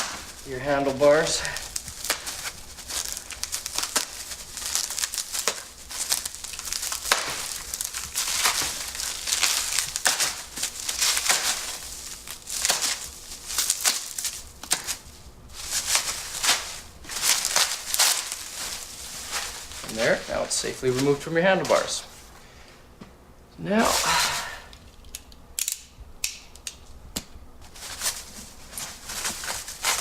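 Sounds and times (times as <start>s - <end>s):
bubble wrap crinkling: 0.0s - 22.4s, 23.8s - 25.3s, 27.6s - 30.0s.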